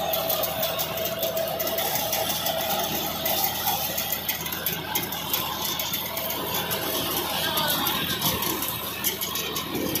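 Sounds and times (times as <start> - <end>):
rattling: 0.0 - 10.0
tractor diesel engine under load: 0.0 - 10.0.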